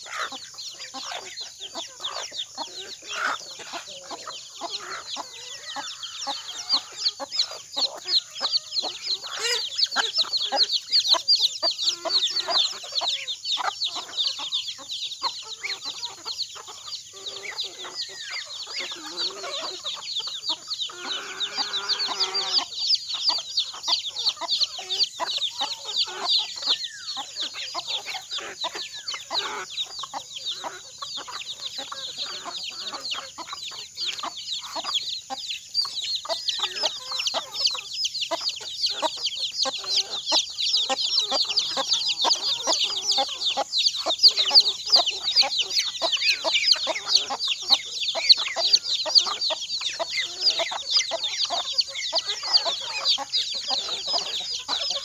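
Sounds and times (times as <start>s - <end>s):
chickens clucking: 0.0s - 55.0s
chicks peeping: 0.0s - 55.0s.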